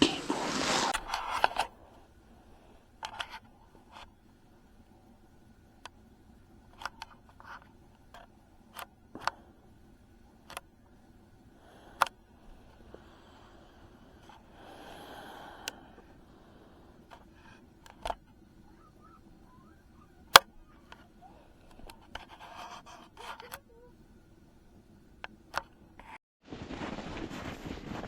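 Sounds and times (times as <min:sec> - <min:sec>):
faint background noise: 0:00.0 - 0:28.0.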